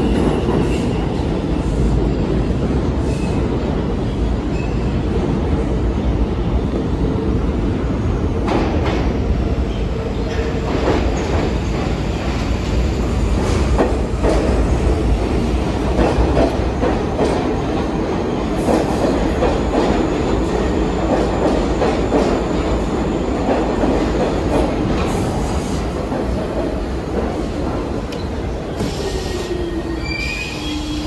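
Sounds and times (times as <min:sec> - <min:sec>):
subway train wheels rolling on rail: 0:00.0 - 0:31.0.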